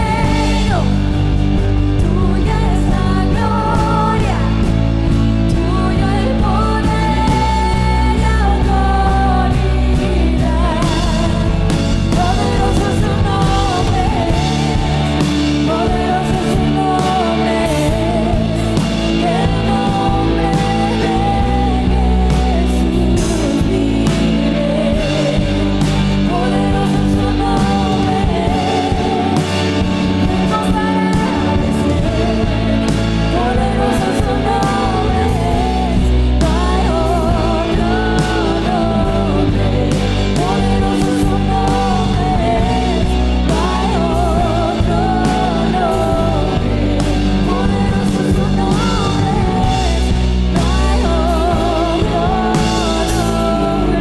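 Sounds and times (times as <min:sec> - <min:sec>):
worship band with singing: 0:00.0 - 0:54.0.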